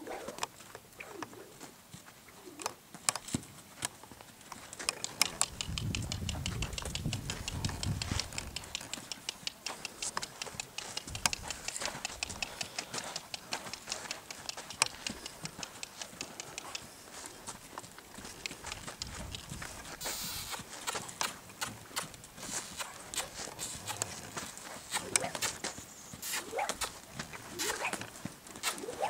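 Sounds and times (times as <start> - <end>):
hoofbeats on sand: 2.9 - 29.0.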